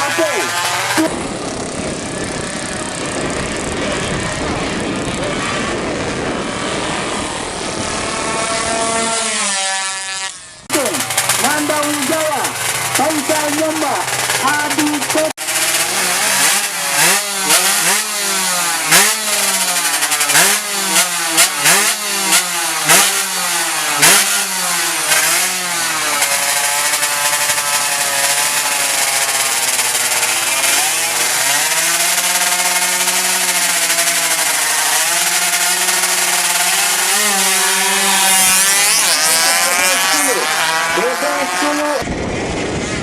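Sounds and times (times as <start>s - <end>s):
two-stroke engine revving: 0.0s - 43.0s.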